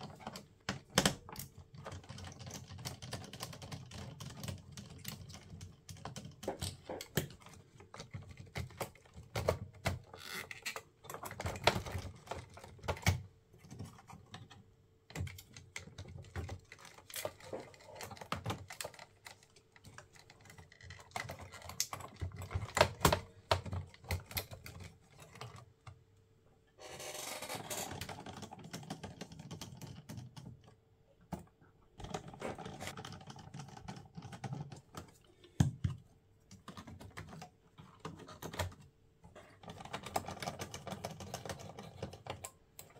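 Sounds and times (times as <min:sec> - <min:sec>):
small plastic clicks and rattles: 0:00.0 - 0:26.2, 0:27.1 - 0:42.9.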